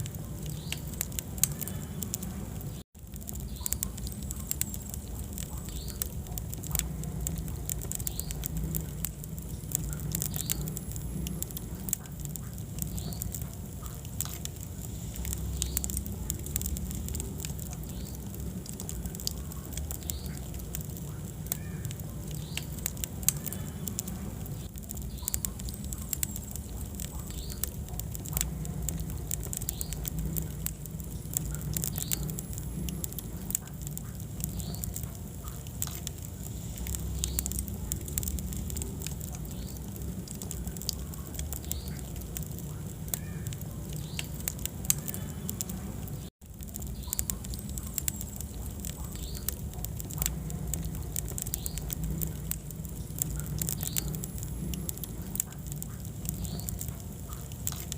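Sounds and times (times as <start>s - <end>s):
fire rumbling in fireplace: 0.0s - 57.9s
logs crackling and popping: 0.0s - 57.9s.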